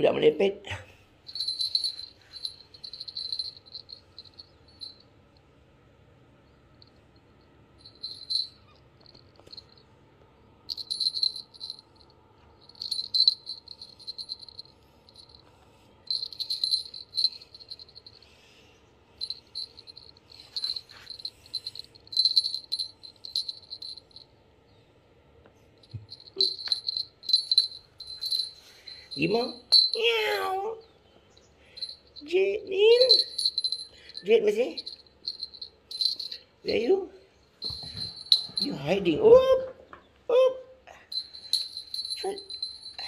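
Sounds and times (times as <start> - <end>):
small bell jingling: 1.2 - 5.4, 6.7 - 9.9, 10.6 - 24.3, 25.8 - 39.8, 40.9 - 43.0.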